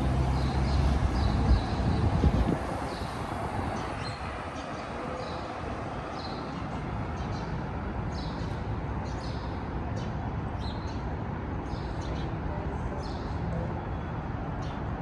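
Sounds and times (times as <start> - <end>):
low hum of traffic: 0.0 - 15.0.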